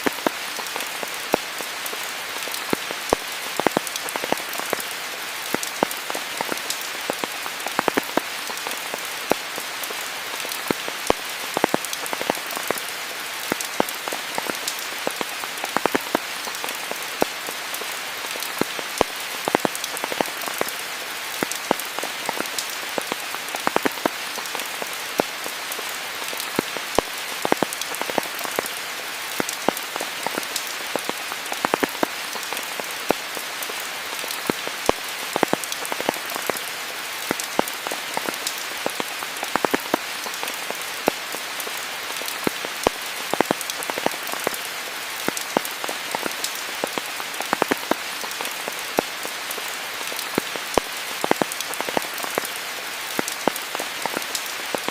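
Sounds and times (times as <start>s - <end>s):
steady rain on leaves: 0.0s - 54.9s.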